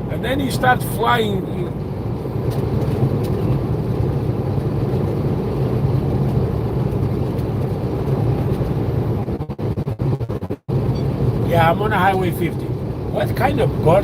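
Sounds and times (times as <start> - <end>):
diesel engine drone: 0.0 - 14.0
road noise: 0.0 - 14.0.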